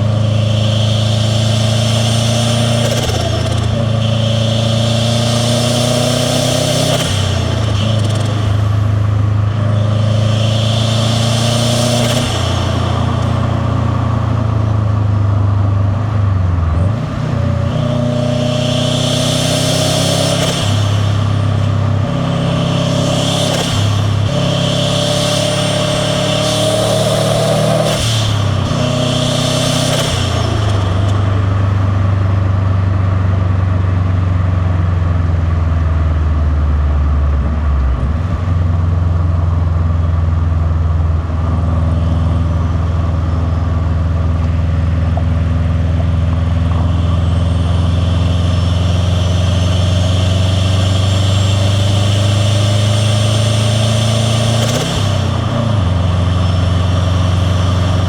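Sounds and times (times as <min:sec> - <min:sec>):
car engine revving: 0:00.0 - 0:58.0
turbo and intake rush: 0:00.0 - 0:58.0.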